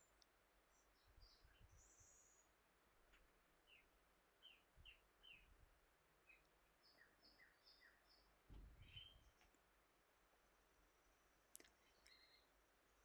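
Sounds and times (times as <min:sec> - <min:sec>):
faint bird chirps: 0:00.0 - 0:02.6, 0:03.2 - 0:05.6, 0:06.2 - 0:09.6, 0:10.4 - 0:13.0.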